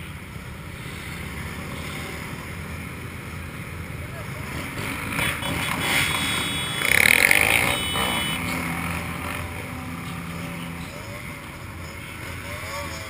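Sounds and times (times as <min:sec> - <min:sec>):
motorcycles idling and revving: 0:00.0 - 0:13.0.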